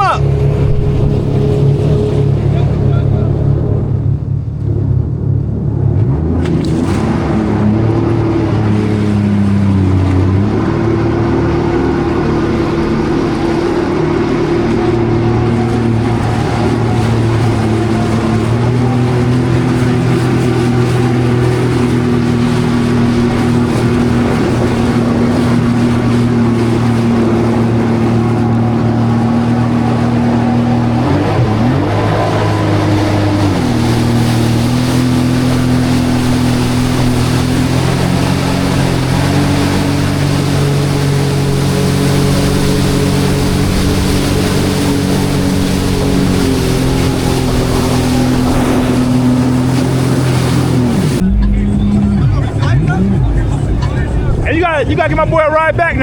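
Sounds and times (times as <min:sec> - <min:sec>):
jet ski engine: 0:00.0 - 0:56.0
water and wind rushing: 0:00.0 - 0:56.0.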